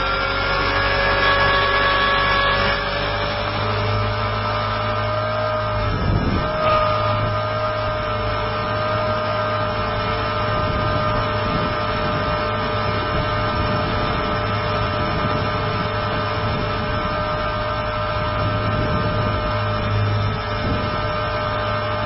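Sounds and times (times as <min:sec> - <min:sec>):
helicopter rotor drone: 0:00.0 - 0:22.0
motor and gears whining: 0:00.0 - 0:22.0.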